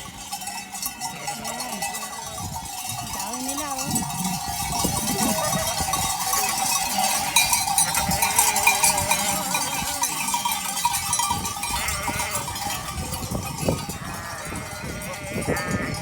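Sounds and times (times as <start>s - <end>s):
sheep bells clanking: 0.0s - 16.0s
sheep bleating: 0.8s - 10.6s, 11.6s - 13.0s, 14.0s - 16.0s.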